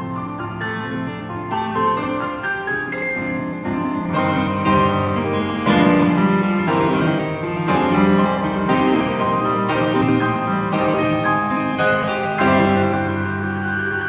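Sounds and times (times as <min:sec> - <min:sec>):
keyboard melody: 0:00.0 - 0:14.0.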